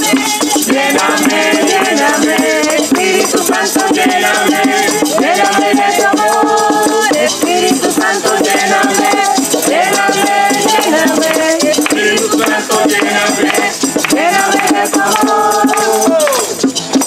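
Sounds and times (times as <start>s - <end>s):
people singing a chorus: 0.0s - 16.6s
shaker rattling: 0.0s - 17.0s.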